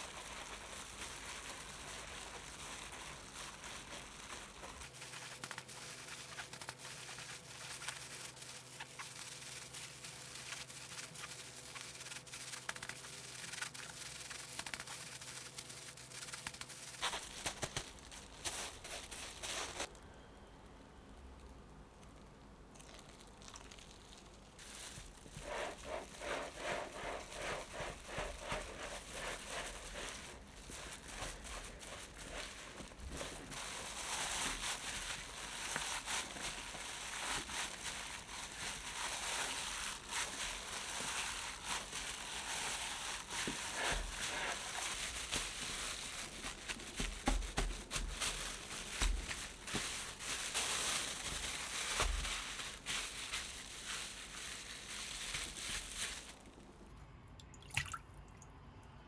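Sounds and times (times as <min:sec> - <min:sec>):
crackling and rustling: 0:00.0 - 0:20.0, 0:21.4 - 0:57.0.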